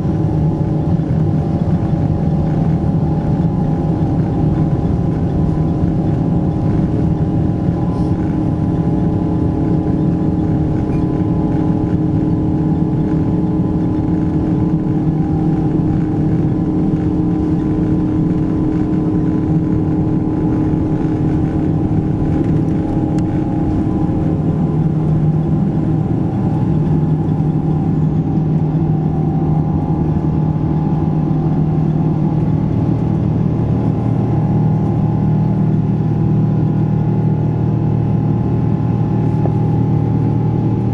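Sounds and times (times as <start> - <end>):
jet engines at takeoff power: 0.0 - 40.9.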